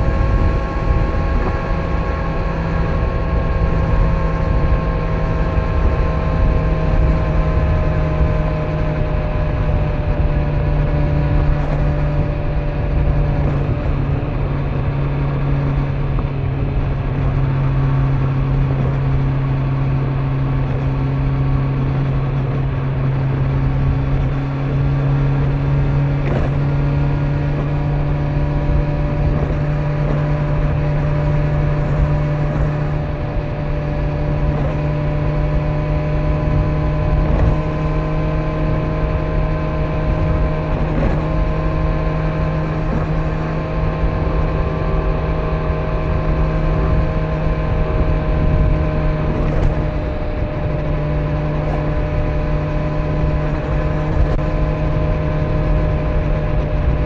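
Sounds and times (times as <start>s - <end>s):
motorcycle engine cruising: 0.0s - 57.0s
wind and tyre noise: 0.0s - 57.0s.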